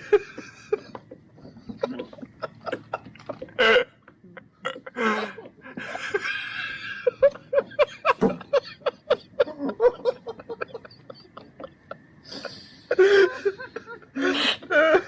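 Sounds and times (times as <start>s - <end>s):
men laughing: 0.0s - 3.5s, 4.9s - 15.0s.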